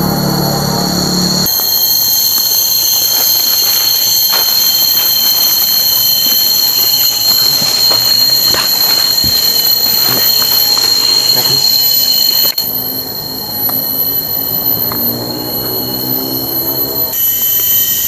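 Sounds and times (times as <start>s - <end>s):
cicadas droning: 0.0s - 18.0s.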